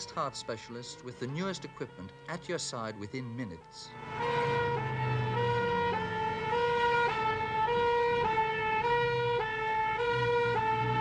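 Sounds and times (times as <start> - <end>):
ambulance two-tone siren: 0.0 - 11.0.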